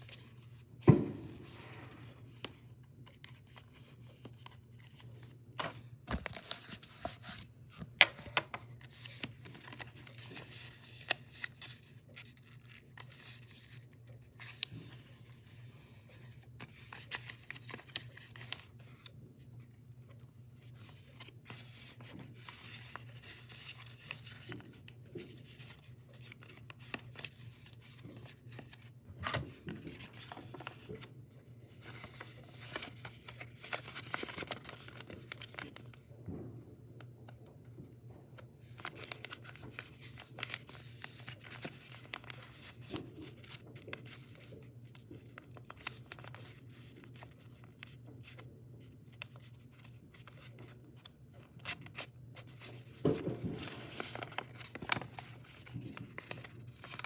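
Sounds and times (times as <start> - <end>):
paper rustling and crinkling: 0.0 - 36.1, 37.4 - 57.0.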